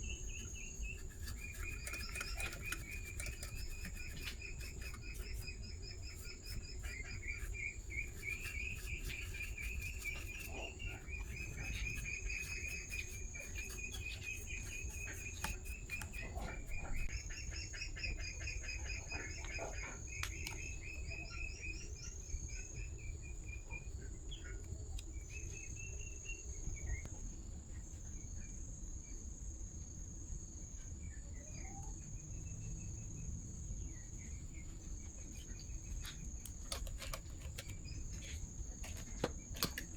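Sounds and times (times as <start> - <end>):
crickets trilling: 0.0 - 27.0, 28.0 - 39.9.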